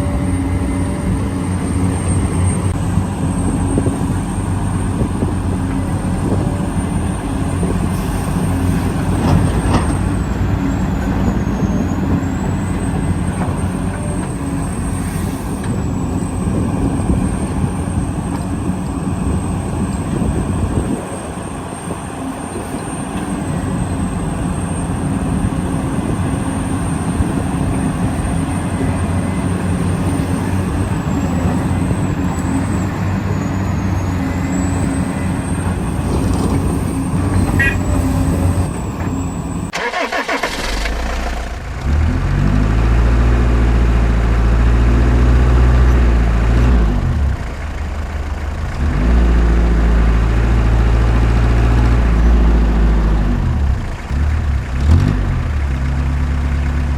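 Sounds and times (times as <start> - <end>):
low engine-like hum: 0.0 - 56.9.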